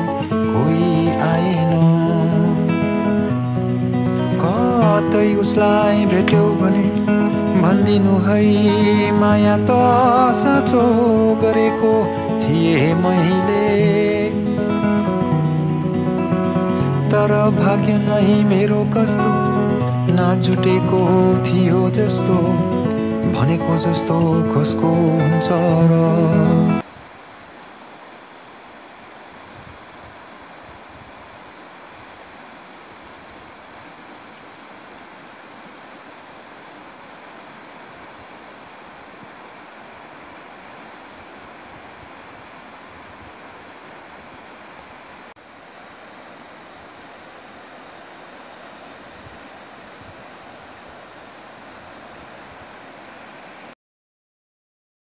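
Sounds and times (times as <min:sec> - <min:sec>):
river water rushing: 0:00.0 - 0:53.8.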